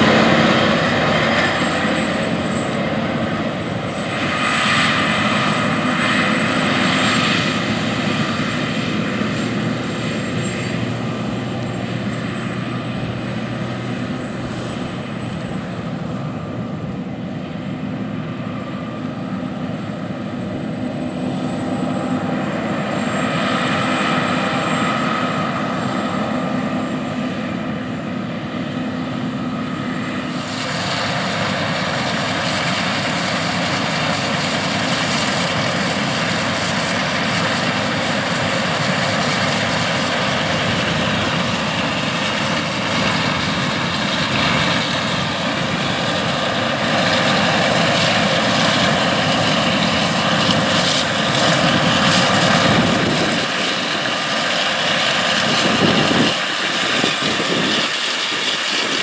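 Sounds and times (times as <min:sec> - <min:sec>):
diesel engines droning: 0:00.0 - 0:59.0.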